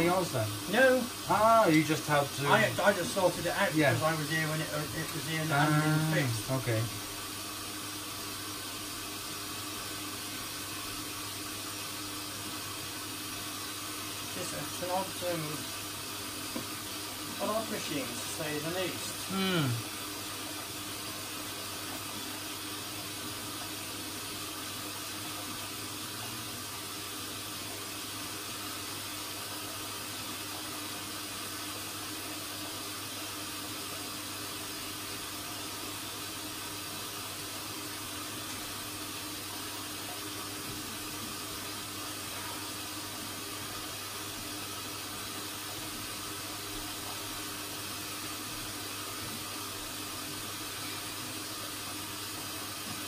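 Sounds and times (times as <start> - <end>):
washing machine water rushing: 0.0 - 53.0.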